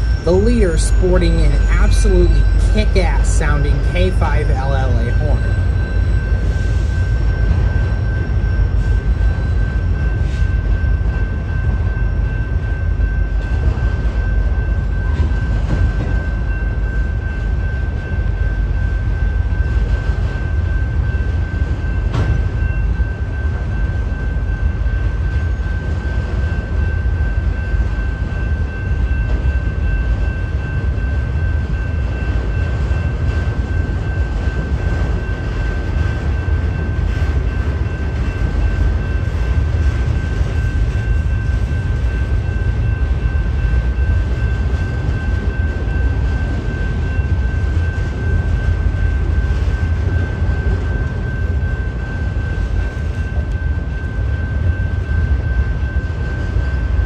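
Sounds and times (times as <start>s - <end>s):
freight train wheels rumbling: 0.0s - 57.0s
high-pitched tone: 0.0s - 57.0s.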